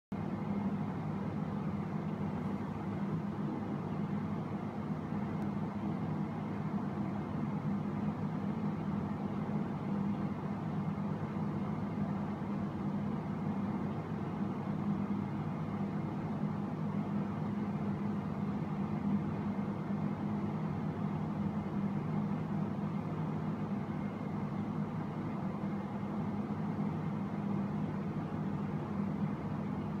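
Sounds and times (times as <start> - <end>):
motorized turntable humming: 0.2 - 30.0.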